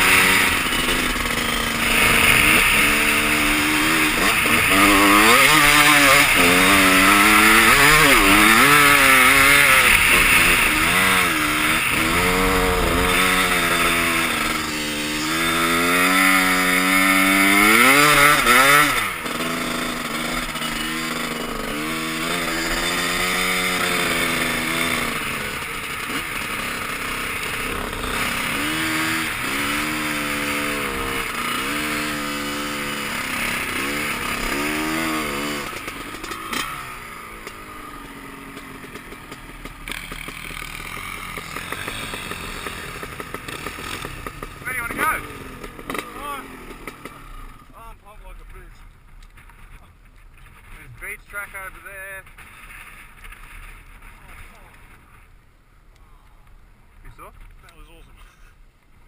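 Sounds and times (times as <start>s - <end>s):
dirt bike engine revving: 0.0s - 49.7s.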